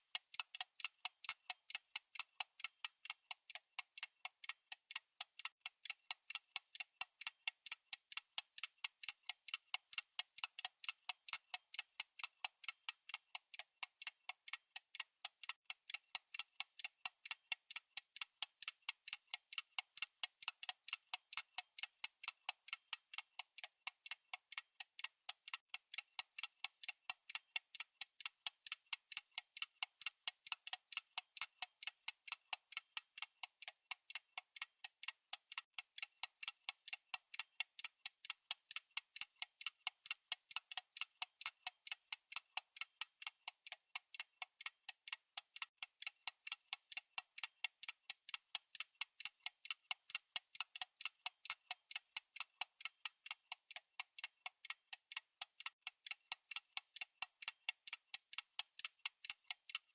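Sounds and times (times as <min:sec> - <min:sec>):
timer ticking: 0:00.0 - 0:59.9.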